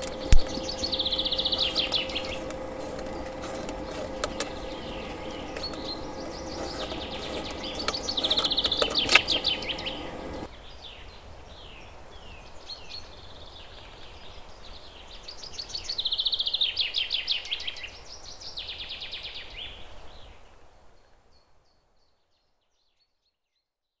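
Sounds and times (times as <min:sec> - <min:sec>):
birds chirping and trilling: 0:00.0 - 0:19.8.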